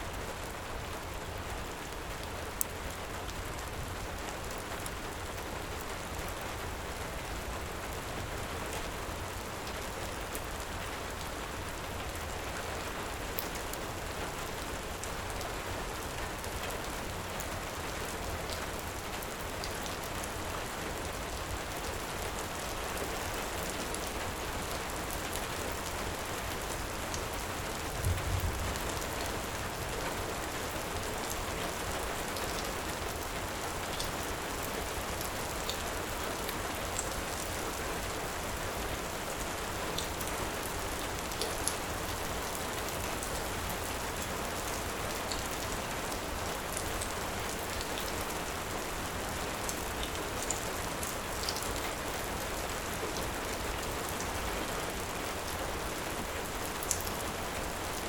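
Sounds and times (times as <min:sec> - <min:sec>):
heavy rain falling: 0:00.1 - 0:58.0.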